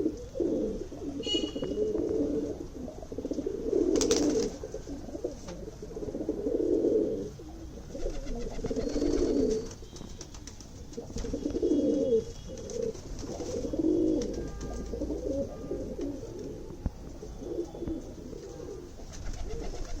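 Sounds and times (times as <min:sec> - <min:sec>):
pigeons cooing: 0:00.0 - 0:09.9, 0:10.9 - 0:20.0.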